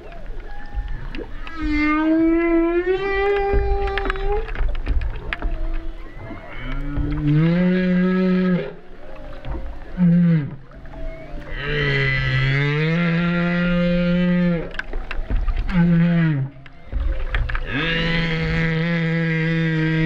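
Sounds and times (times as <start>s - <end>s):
humpback whale calls: 0.0s - 20.0s
water sloshing and knocking: 0.0s - 20.0s.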